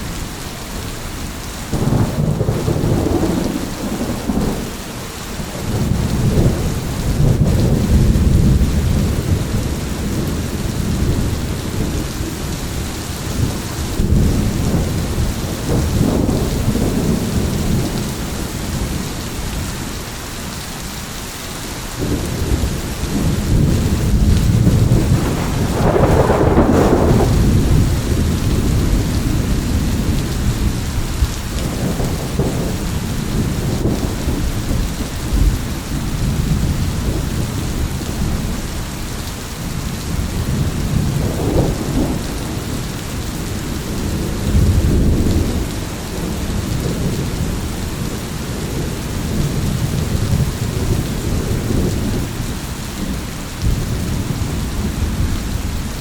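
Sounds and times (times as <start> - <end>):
heavy rain: 0.0 - 56.0
thunder rumbling: 1.7 - 20.0, 22.0 - 56.0.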